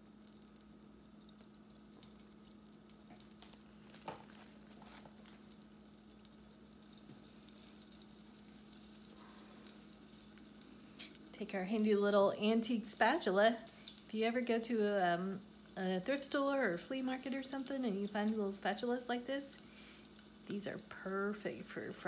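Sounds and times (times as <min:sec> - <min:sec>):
food sizzling in oil: 0:00.0 - 0:22.0
oil crackles and pops: 0:00.0 - 0:22.0.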